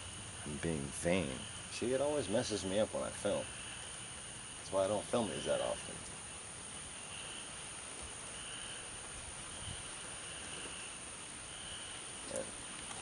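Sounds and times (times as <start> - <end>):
high-pitched insect drone: 0.0 - 13.0
insects chirping: 0.0 - 13.0.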